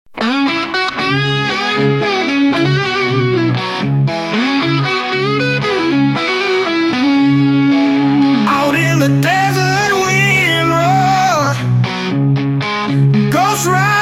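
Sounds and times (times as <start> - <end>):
distorted electric guitar riff: 0.1 - 14.0.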